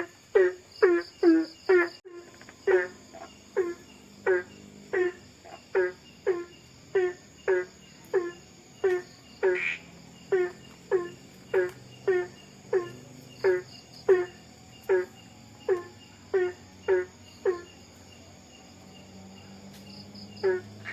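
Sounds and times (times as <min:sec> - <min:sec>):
crickets and insects chirring: 0:00.0 - 0:20.9.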